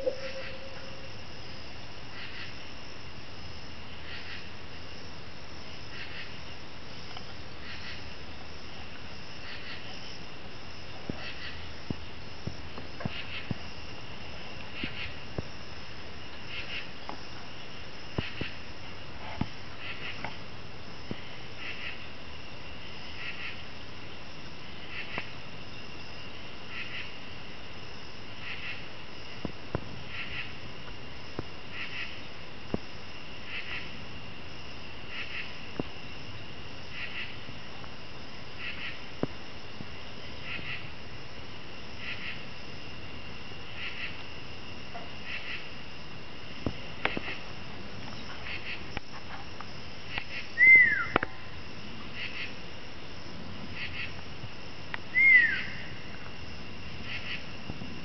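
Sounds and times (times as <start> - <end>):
night insects chirping: 0.0 - 58.0.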